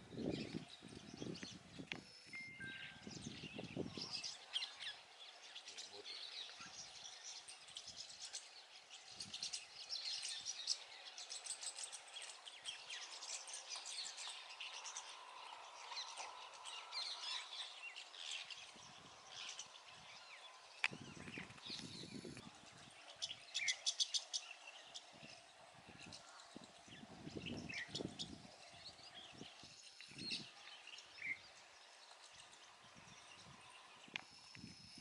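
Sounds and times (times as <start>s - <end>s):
starlings chattering: 0.2s - 35.0s.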